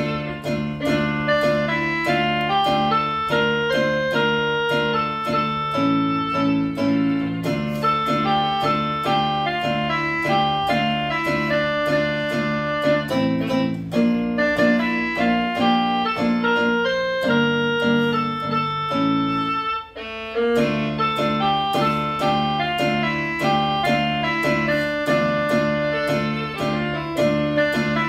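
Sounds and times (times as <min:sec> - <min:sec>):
electronic keyboard piano melody: 0:00.0 - 0:28.0.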